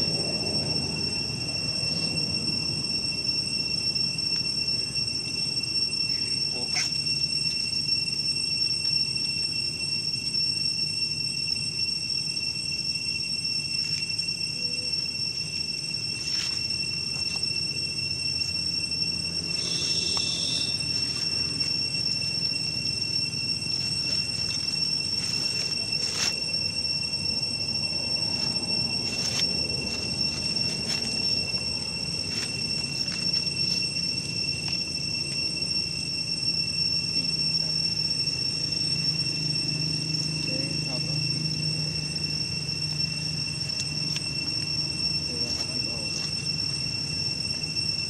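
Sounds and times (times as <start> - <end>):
high-pitched insect buzz: 0.0 - 48.0.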